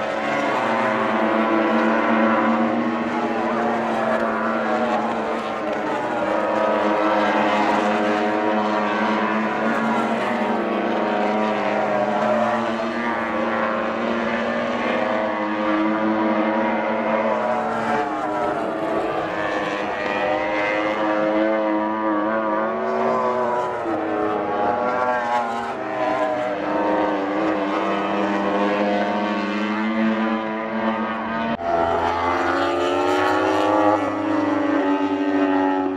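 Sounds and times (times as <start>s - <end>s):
racing motorcycle engines revving: 0.0s - 35.9s.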